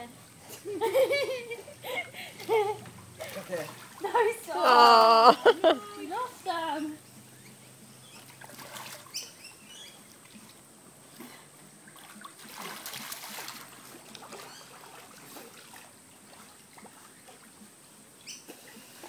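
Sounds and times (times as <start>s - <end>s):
pool water splashing: 0.0s - 19.0s.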